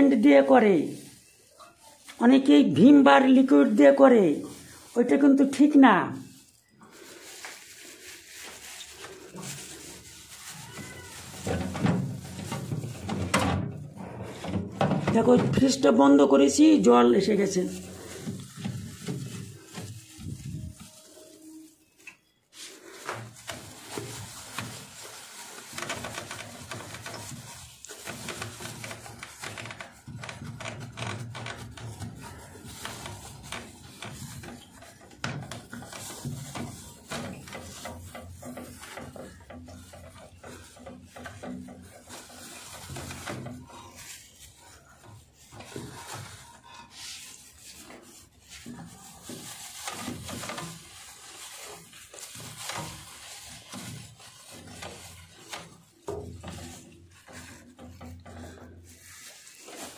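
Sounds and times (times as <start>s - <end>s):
wet cloth scrubbing plastic shelf: 0.0s - 59.9s.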